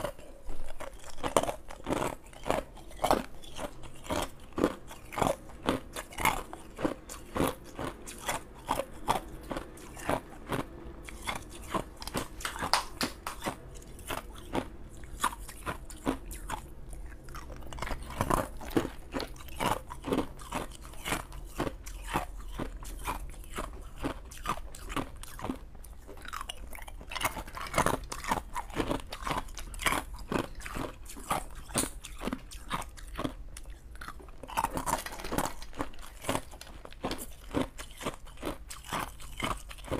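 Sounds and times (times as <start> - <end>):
ice cubes being crunched: 0.0 - 25.6, 26.2 - 39.9.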